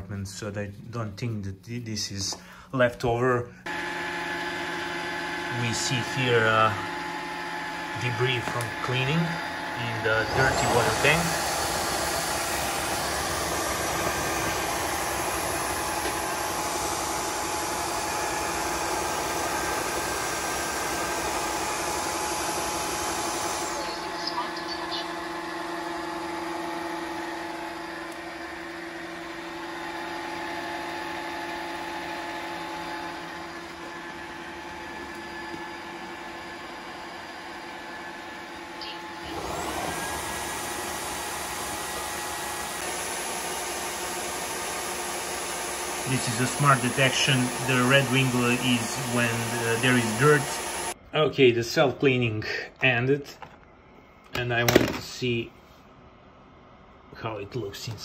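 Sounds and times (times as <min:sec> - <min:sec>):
vacuum motor and brush roller: 0:03.7 - 0:51.0.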